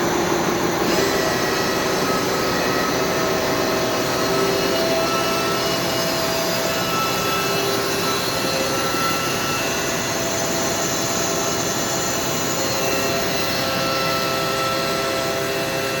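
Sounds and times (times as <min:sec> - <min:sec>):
machinery whir: 0:00.0 - 0:16.0.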